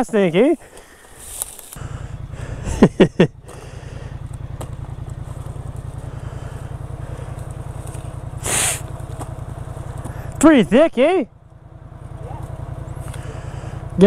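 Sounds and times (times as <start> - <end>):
engine idling rumble: 0.0 - 14.0.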